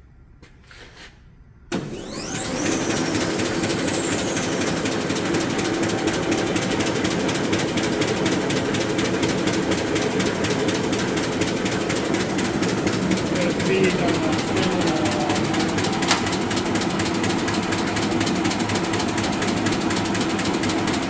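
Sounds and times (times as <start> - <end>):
grinder motor whining: 1.8 - 21.0.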